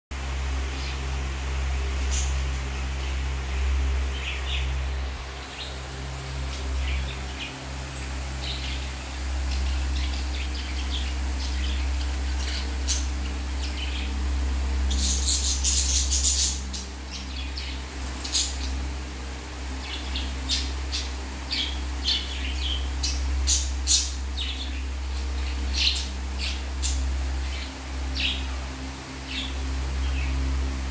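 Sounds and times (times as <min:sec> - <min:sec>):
steady low hum: 0:00.1 - 0:30.9
budgerigars chirping and chattering: 0:00.8 - 0:30.9.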